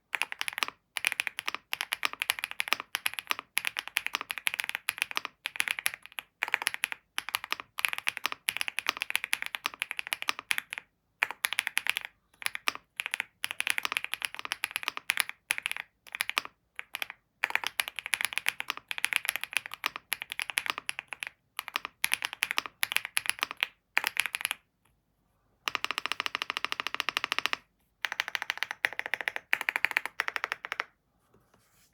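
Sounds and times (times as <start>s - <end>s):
mechanical keyboard typing: 0.1s - 24.6s, 25.7s - 30.9s.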